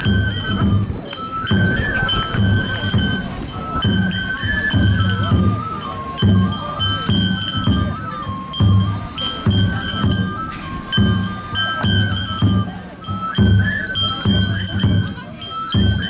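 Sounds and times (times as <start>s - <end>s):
bamboo flute melody: 0.0s - 16.0s
taiko drum beats: 0.0s - 16.0s.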